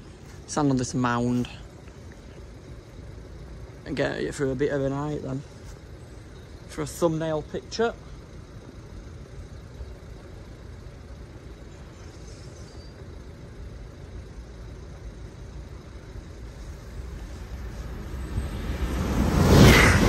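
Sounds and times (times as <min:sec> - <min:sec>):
approaching train rumble: 0:00.0 - 0:20.0.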